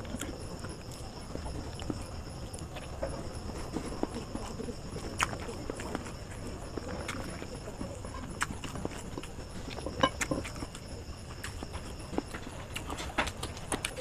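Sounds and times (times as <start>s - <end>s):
mouth chewing with wet clicks: 0.0s - 14.0s.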